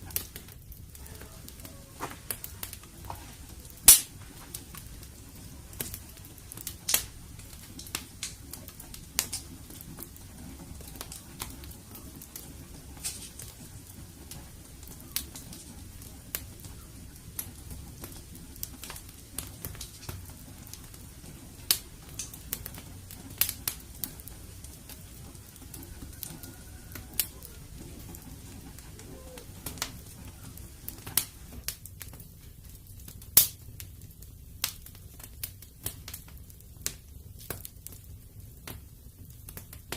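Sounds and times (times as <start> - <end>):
low rumble of flames: 0.0 - 39.9
wood fire crackling: 0.0 - 39.9
sharp pops and snaps: 1.6 - 26.4, 27.2 - 34.0, 34.6 - 39.9.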